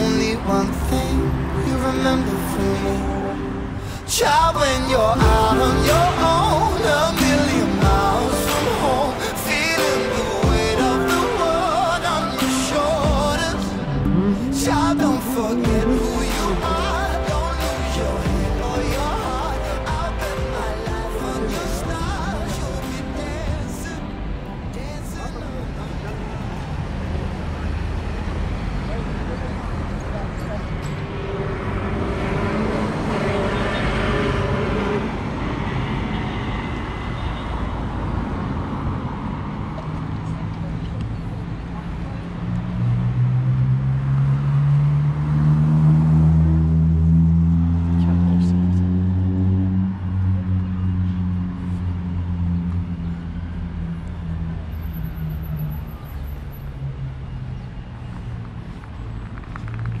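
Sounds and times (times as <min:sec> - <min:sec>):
passing vehicles: 0:00.0 - 1:00.0.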